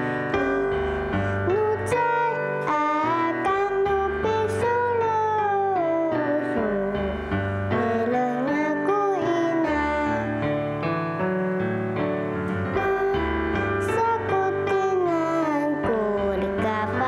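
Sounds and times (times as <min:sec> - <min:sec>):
girl singing: 0:00.0 - 0:10.6, 0:12.5 - 0:17.0
keyboard and piano backing track: 0:00.0 - 0:17.0.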